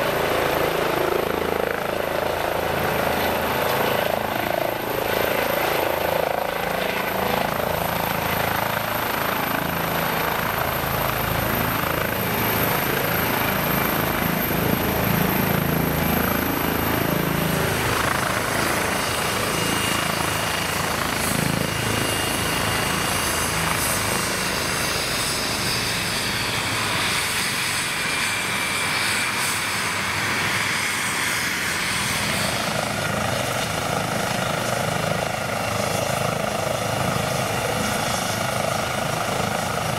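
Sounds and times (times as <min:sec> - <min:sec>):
helicopter rotor and turbine noise: 0:00.0 - 0:39.9.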